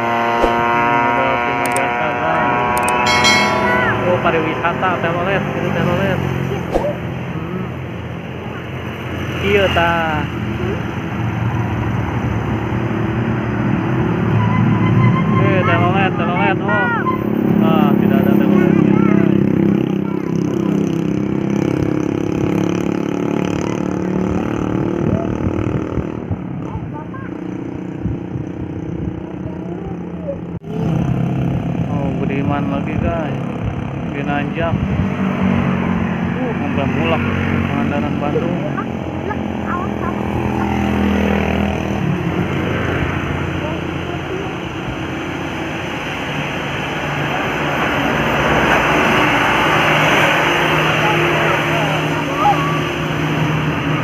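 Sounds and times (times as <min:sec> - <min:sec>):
road rumble: 0:00.0 - 0:54.0
vehicle engine and tyres humming: 0:00.0 - 0:54.0.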